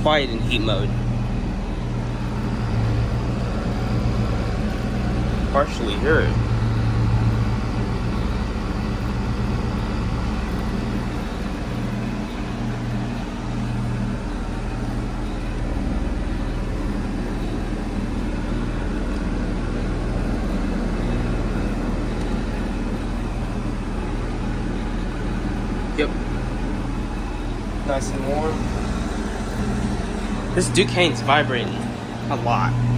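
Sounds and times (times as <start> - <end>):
compressor humming: 0.0 - 32.9
fan rushing: 0.0 - 32.9.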